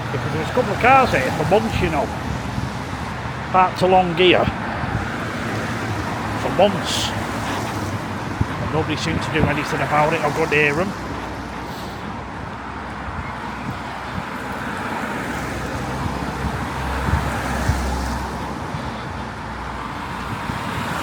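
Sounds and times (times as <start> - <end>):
passing cars rushing: 0.0 - 21.0.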